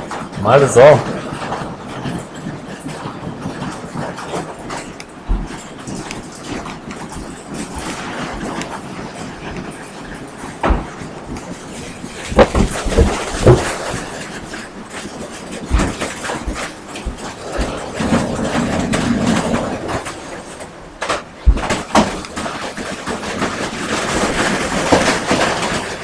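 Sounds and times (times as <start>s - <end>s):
hailstones knocking on hard surfaces: 0.0s - 26.0s.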